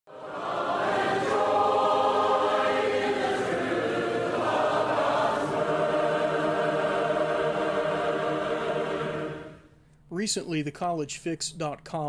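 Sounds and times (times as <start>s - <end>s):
choir singing held chords: 0.1s - 9.8s.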